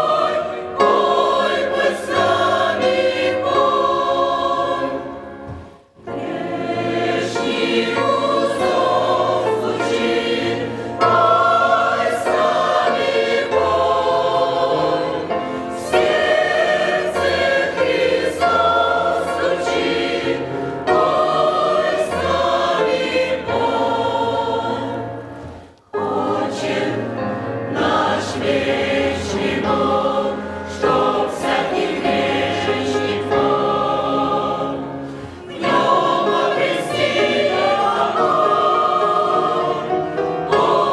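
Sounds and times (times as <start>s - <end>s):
church choir singing a hymn: 0.0s - 40.9s.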